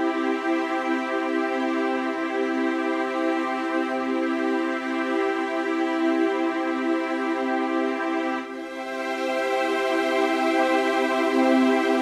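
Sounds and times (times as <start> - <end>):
music of held chords: 0.0 - 12.0.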